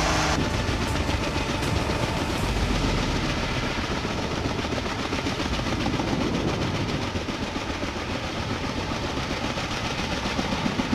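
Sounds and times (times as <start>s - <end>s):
helicopter rotor chop: 0.0s - 10.9s
turbine engine rushing noise: 0.0s - 10.9s.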